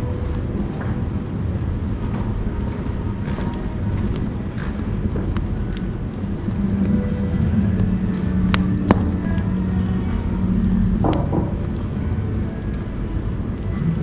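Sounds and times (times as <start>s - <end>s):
burning wood crackling: 0.0s - 14.0s
fire roaring in wood stove: 0.0s - 14.0s.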